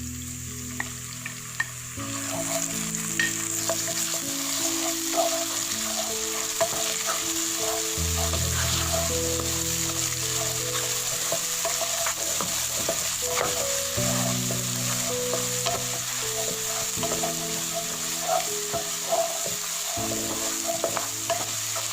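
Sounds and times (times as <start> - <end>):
food sizzling in hot oil: 0.0 - 21.9.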